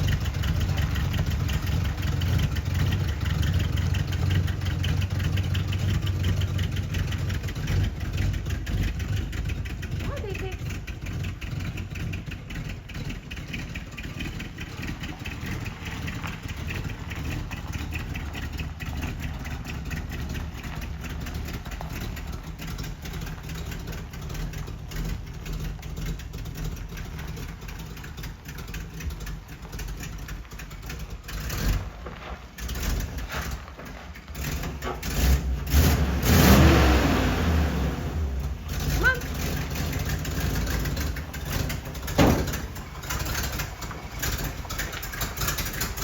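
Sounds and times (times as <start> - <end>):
truck engine idling: 0.0 - 46.0.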